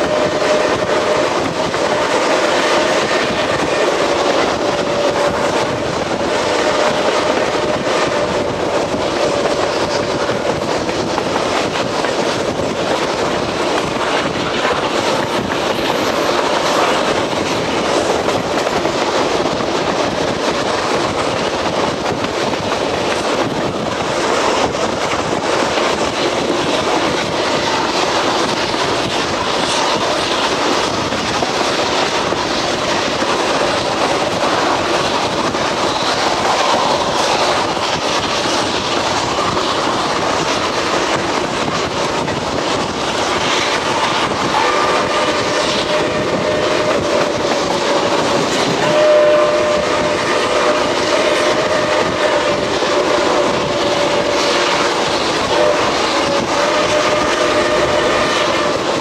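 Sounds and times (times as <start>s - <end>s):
train wheels clickety-clack: 0.0s - 59.0s.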